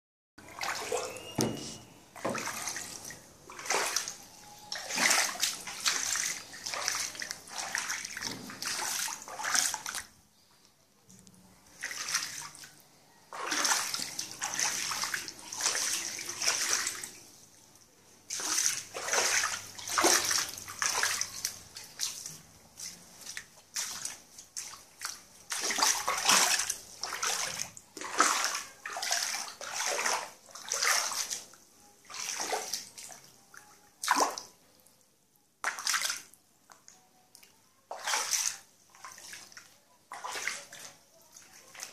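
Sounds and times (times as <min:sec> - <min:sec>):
bare feet splashing in water: 0:00.4 - 0:10.2, 0:11.6 - 0:17.2, 0:18.2 - 0:33.3, 0:34.0 - 0:34.6, 0:35.6 - 0:36.9, 0:37.9 - 0:41.9.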